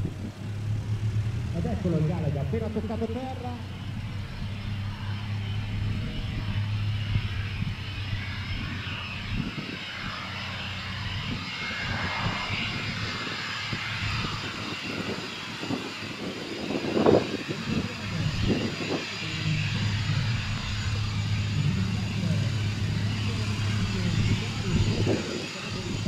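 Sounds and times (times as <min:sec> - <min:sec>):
jet engine running at low power: 0:00.0 - 0:26.0.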